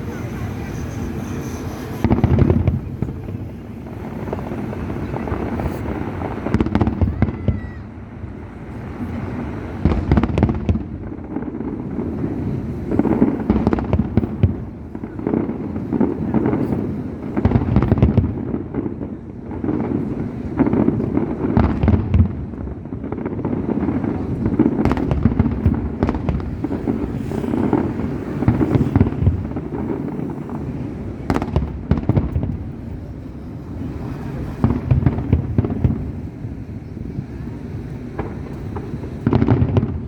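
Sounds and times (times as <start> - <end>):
fireworks bangs and crackles: 0.0 - 40.0
fireworks rumble: 0.0 - 40.0.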